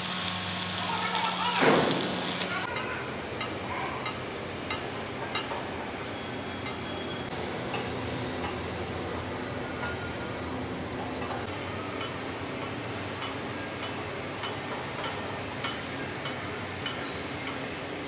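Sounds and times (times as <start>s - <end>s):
workshop machine humming: 0.0s - 18.0s.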